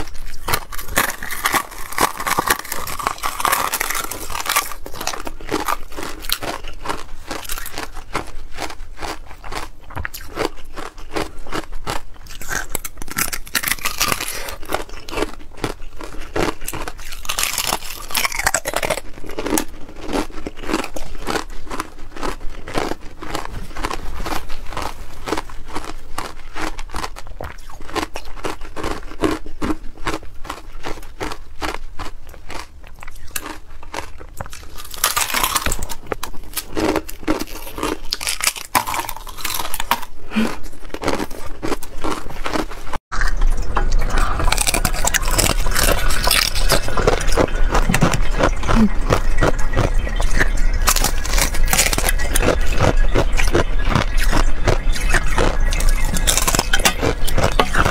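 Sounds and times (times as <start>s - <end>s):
ice crunching being chewed: 0.0s - 57.9s.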